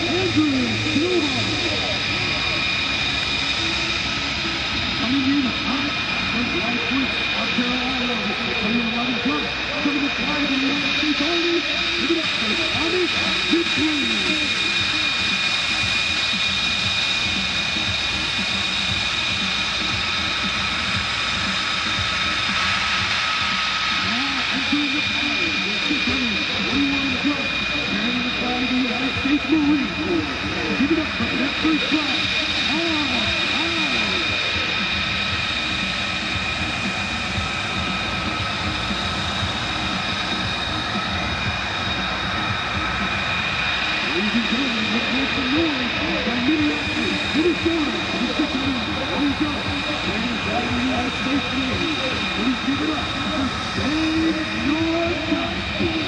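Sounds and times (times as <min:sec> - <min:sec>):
jet turbine whine: 0:00.0 - 0:56.0.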